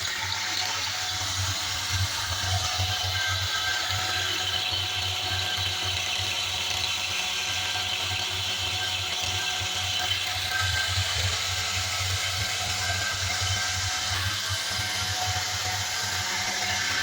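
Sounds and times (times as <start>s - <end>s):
belt sander running: 0.0s - 17.0s.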